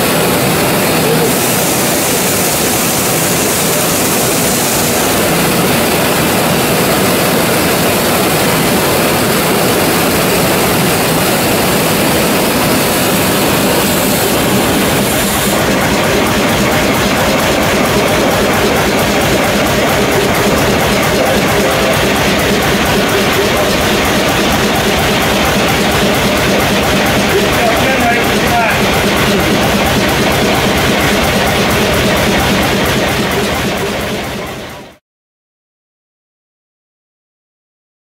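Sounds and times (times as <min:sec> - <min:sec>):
oil engine running: 0:00.0 - 0:35.0.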